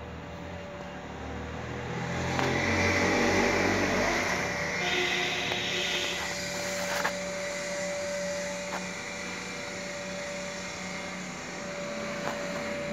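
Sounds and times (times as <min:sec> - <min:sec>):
machine hum with whining tone: 0:00.0 - 0:12.9
noisy rush: 0:00.0 - 0:12.9.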